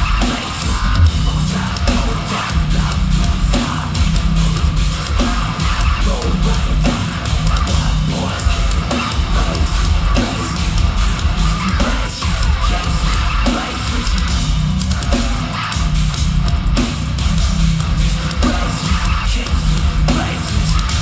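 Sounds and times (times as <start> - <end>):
distorted guitars: 0.0 - 21.0
live metal band playing: 0.0 - 21.0
pounding drums: 0.0 - 21.0.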